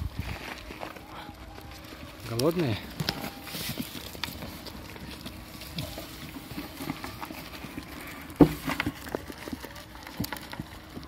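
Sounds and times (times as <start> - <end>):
goats crunching feed: 0.0 - 11.0.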